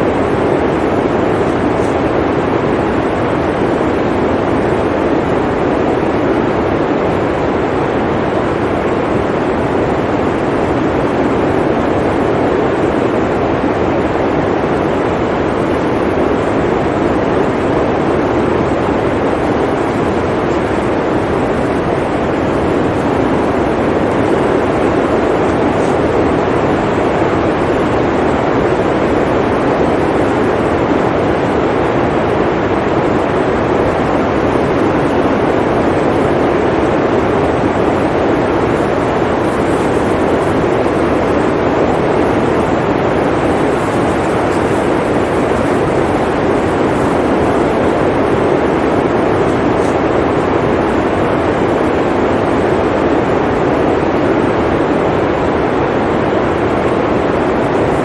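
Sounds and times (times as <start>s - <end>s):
blizzard wind rushing: 0.0s - 58.0s.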